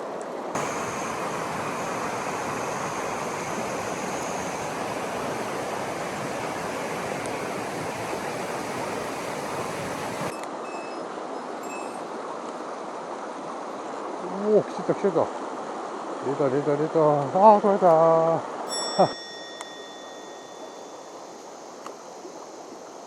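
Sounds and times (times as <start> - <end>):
stream water rushing: 0.4 - 10.6, 11.2 - 23.0.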